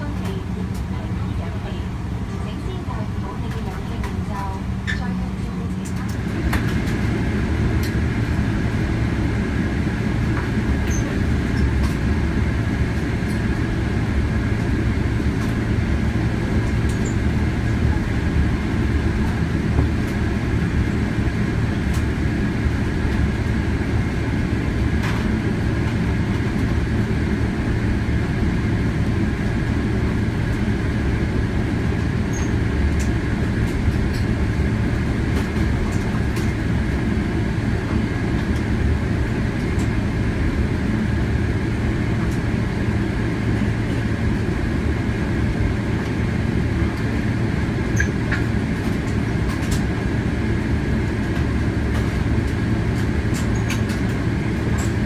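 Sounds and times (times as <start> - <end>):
aircraft cabin rumble: 0.0 - 55.0
jet engine whine: 0.0 - 55.0.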